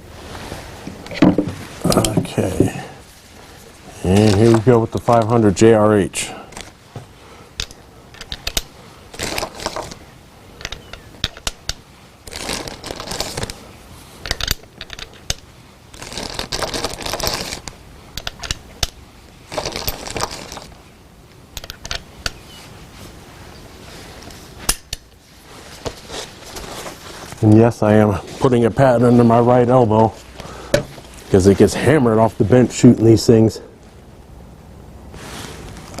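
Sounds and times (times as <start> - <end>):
rustling: 0.0 - 5.7, 6.3 - 32.4, 35.0 - 36.0.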